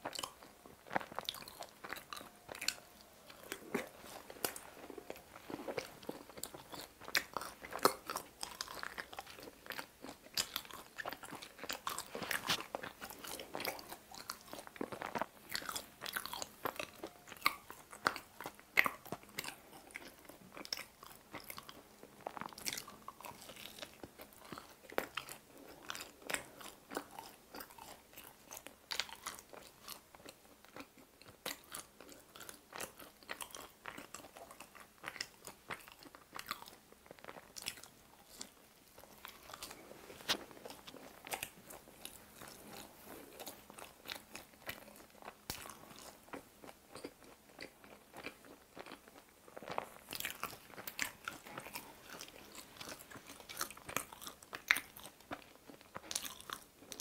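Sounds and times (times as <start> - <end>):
crunchy chewing of pizza crust: 0.0 - 57.0.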